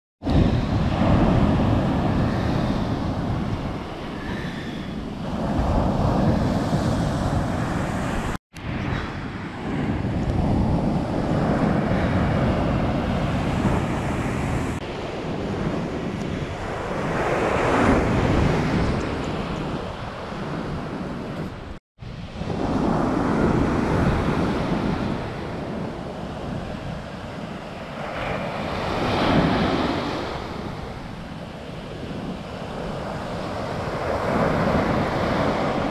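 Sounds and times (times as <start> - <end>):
surf breaking on beach: 0.2 - 21.3, 22.1 - 35.9
wind buffeting microphone: 0.2 - 35.9.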